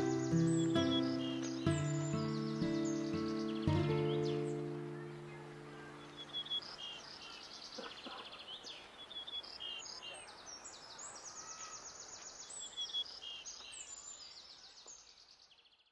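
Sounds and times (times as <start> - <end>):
faint background hiss: 0.0 - 15.4
songbirds chirping and trilling: 0.0 - 15.9.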